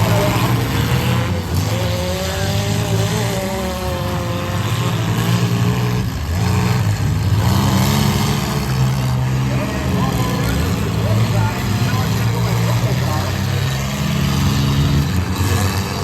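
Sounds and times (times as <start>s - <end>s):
race truck engines revving: 0.0s - 16.0s.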